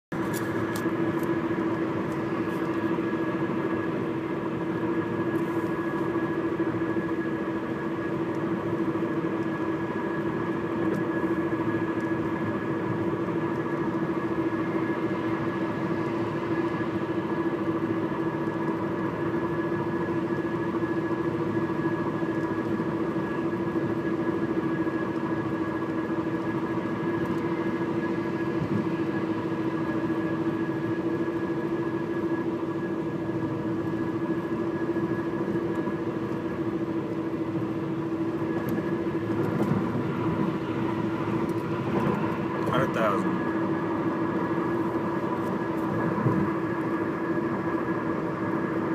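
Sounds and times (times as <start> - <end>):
car engine and road noise: 0.1 - 48.9
constant pitched hum: 0.1 - 48.9.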